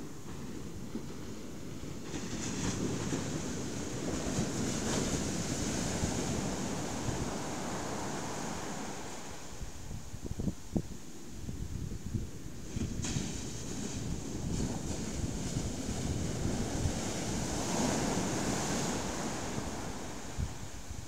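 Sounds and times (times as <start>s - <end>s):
surf breaking on beach: 0.0s - 9.9s, 12.4s - 21.0s
wind buffeting microphone: 0.0s - 21.0s.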